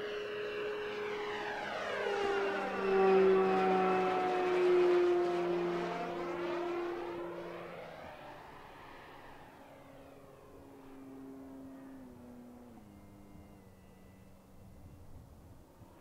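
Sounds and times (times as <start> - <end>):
model airplane motor whining: 0.0 - 16.0.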